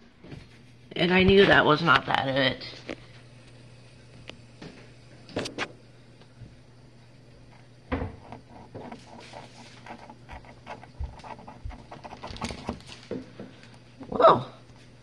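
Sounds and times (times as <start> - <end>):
dishwasher humming: 0.0 - 15.0.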